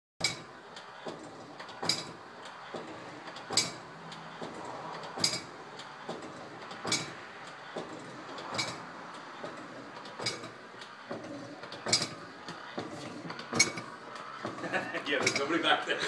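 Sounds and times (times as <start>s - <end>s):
pistons clacking: 0.2s - 15.8s.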